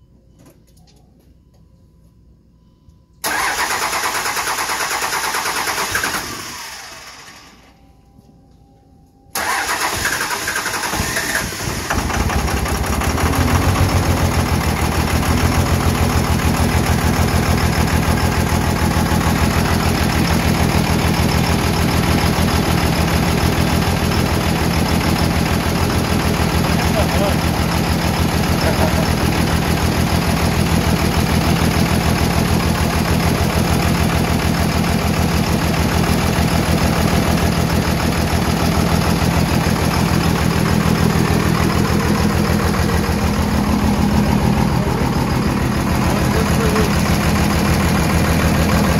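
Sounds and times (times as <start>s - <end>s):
diesel engine cranking and idling: 3.2s - 7.9s, 9.3s - 48.9s.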